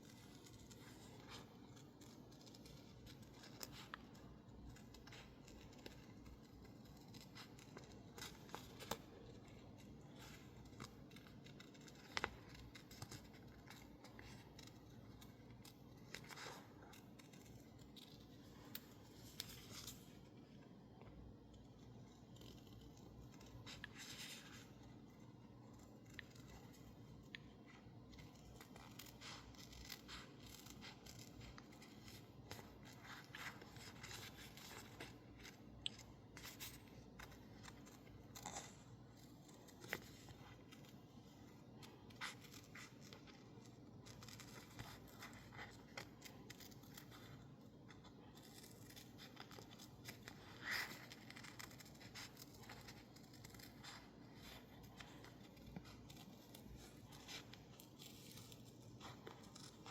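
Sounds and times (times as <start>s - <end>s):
scissors snipping paper: 0.0s - 59.9s.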